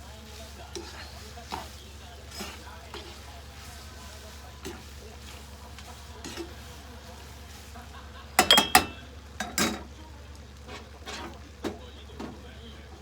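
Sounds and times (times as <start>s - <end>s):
utensil clinking in a pan: 0.0s - 13.0s.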